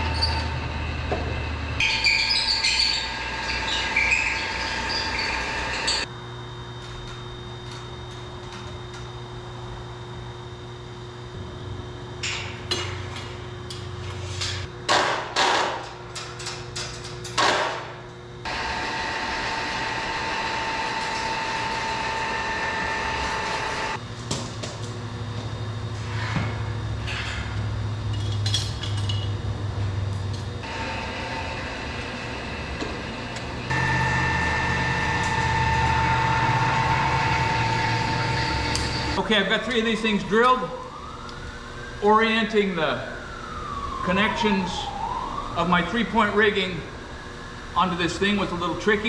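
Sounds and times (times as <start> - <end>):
machine hum with a whine: 0.0 - 49.0.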